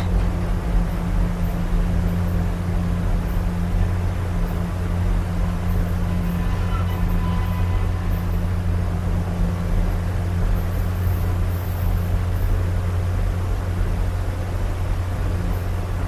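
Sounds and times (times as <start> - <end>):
train car rumbling on track: 0.0 - 16.0.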